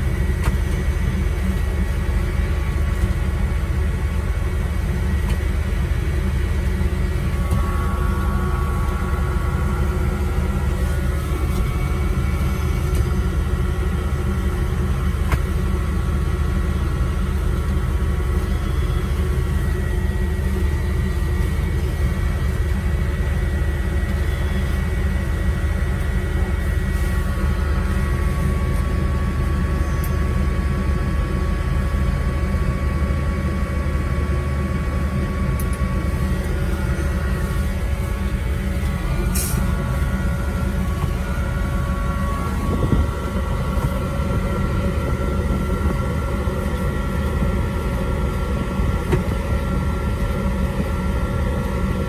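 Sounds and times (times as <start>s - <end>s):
thin steady whines: 0.0s - 52.0s
truck engine and pump drone: 0.0s - 52.0s.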